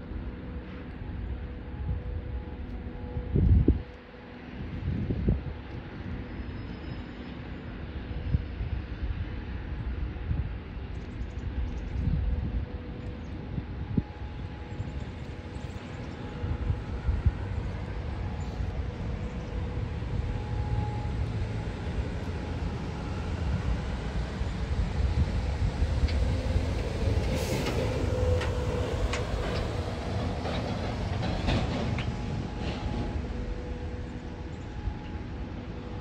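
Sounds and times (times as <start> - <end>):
locomotive engine rumble: 0.0 - 36.0.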